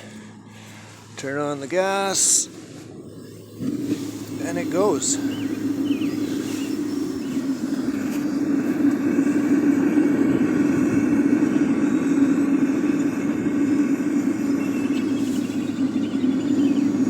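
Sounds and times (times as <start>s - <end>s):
gas burner flame roaring: 0.0s - 17.0s.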